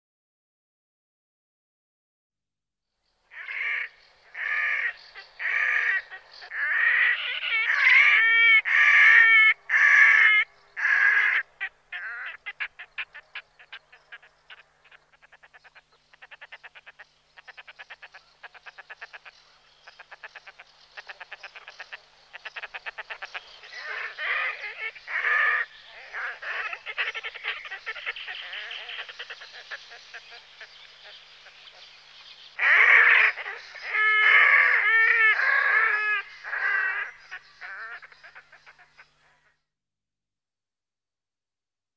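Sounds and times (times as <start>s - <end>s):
grebe calling: 3.3s - 39.6s.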